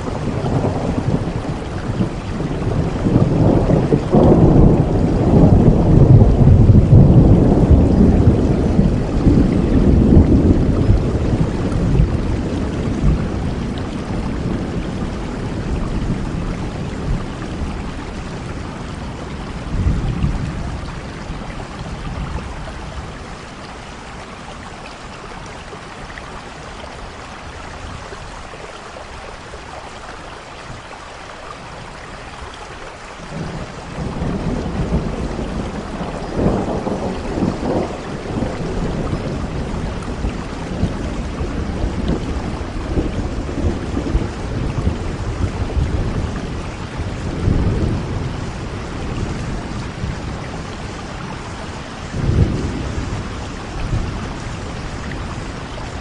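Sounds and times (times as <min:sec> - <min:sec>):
rolling thunder: 0:00.0 - 0:23.8, 0:33.2 - 0:56.0
heavy rain falling: 0:00.0 - 0:56.0.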